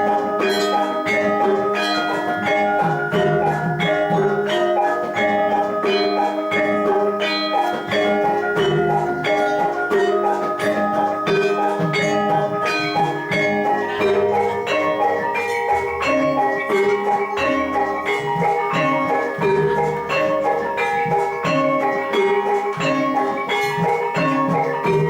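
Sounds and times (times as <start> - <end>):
metallophones ringing: 0.0 - 25.0
percussion: 0.0 - 25.0.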